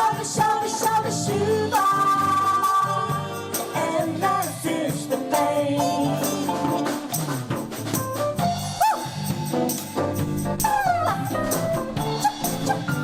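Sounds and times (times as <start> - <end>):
drum kit beat: 0.0 - 13.0
jazz band playing: 0.0 - 13.0.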